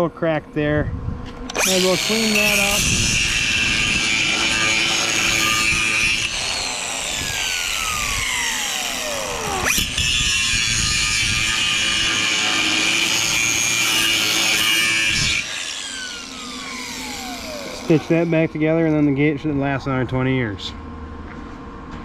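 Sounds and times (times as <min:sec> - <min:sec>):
angle grinder grinding metal: 0:01.5 - 0:19.4.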